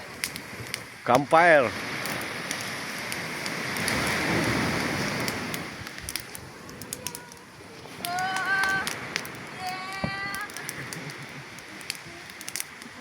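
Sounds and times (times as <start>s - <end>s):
hiss of flames: 0.0s - 13.0s
wood crackling and popping: 0.0s - 13.0s.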